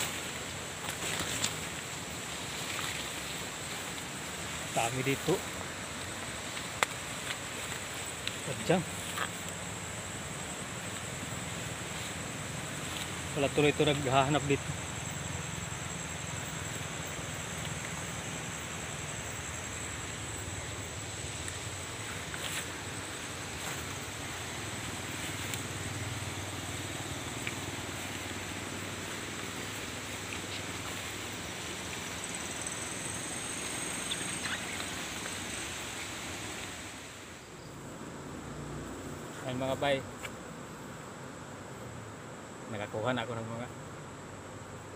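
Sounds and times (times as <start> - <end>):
high-pitched insect drone: 0.0 - 44.9
leaves rustling against microphone: 0.0 - 44.9.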